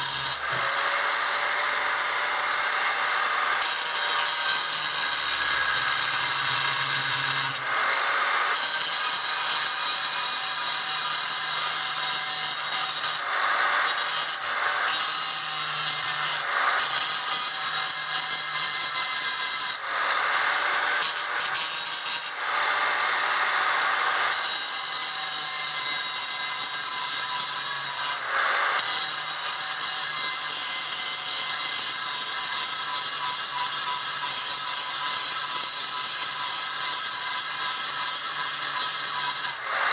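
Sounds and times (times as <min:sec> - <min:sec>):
angle grinder cutting stone: 0:00.0 - 0:39.9.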